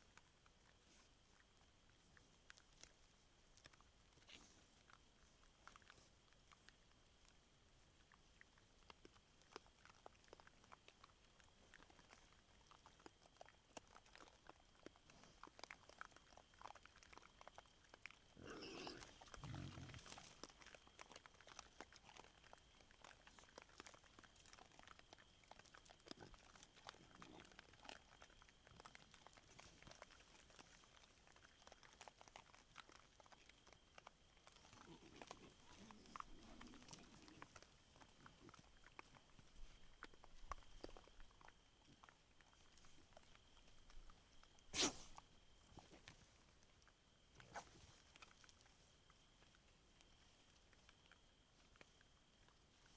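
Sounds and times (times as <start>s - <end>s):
boar crunching maize: 0.0s - 52.9s.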